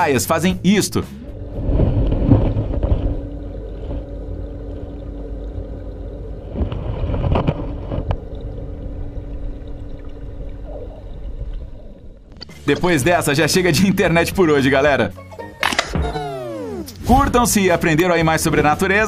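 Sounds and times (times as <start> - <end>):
motor humming and rumbling: 0.6 - 13.8, 15.6 - 19.0.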